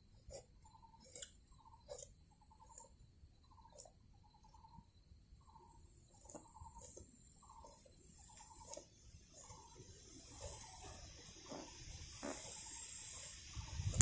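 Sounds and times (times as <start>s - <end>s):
bird calling faintly: 0.0s - 14.0s
high insect drone: 2.4s - 14.0s.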